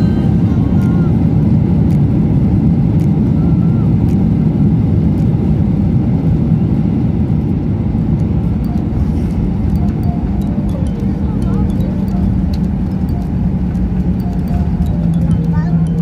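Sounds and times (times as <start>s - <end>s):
airplane engine rumble in cabin: 0.0s - 16.0s.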